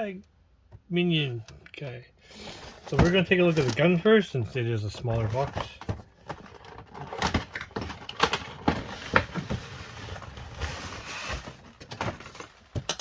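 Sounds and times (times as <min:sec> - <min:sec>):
cardboard and plastic packaging handled: 0:02.4 - 0:13.0.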